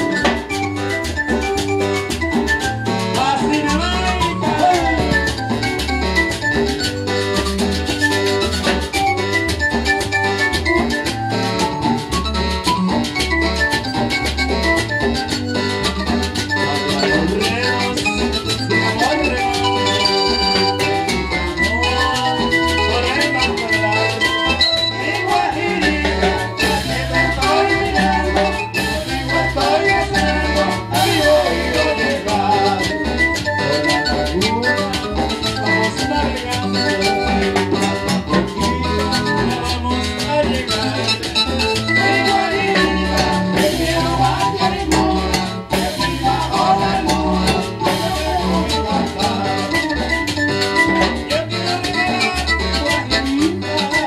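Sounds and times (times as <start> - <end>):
congas: 0.0 - 54.0
electronic keyboard: 0.0 - 54.0
live latin dance band: 0.0 - 54.0.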